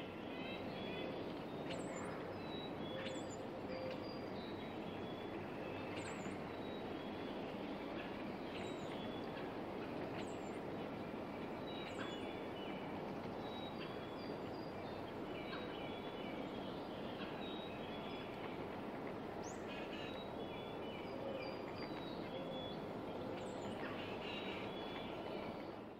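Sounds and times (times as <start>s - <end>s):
songbirds chirping: 0.0s - 25.9s.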